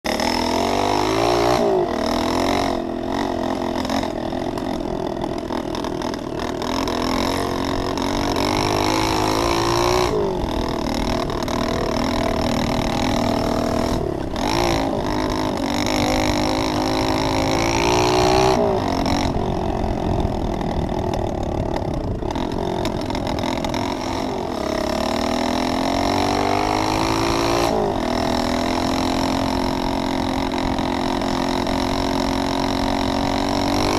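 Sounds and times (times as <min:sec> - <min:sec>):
pit bike engine accelerating: 0:00.1 - 0:33.9.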